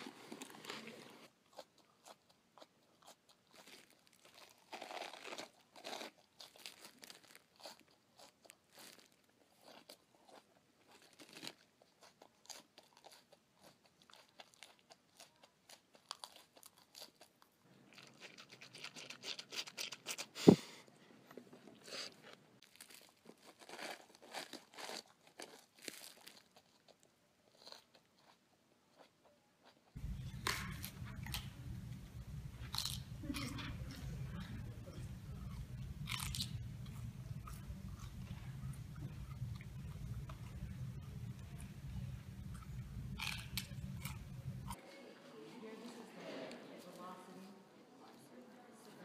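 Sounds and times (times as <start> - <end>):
person chewing lettuce: 0.0 - 20.8, 21.6 - 44.8.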